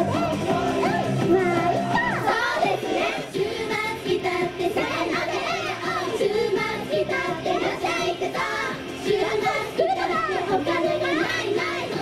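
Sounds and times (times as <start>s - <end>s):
backing music with steady beat: 0.0s - 12.0s
women singing pop song: 0.0s - 12.0s.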